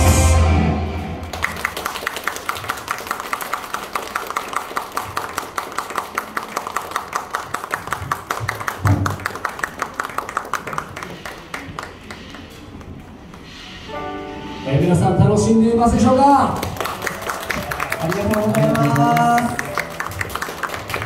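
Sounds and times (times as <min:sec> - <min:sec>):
audience clapping: 0:01.2 - 0:13.5, 0:16.4 - 0:21.0.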